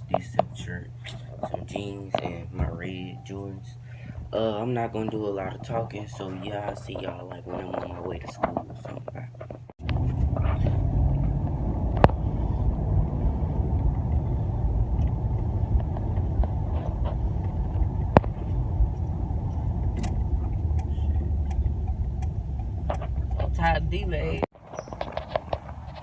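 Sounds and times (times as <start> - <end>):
car interior rumble: 0.0 - 26.0.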